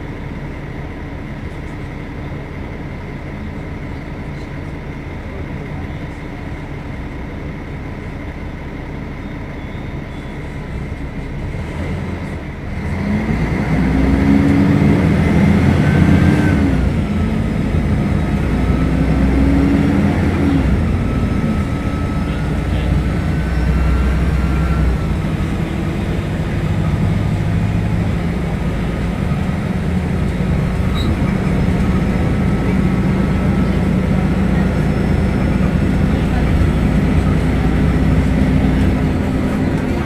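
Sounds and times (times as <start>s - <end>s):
bus diesel engine whining: 0.0s - 40.0s.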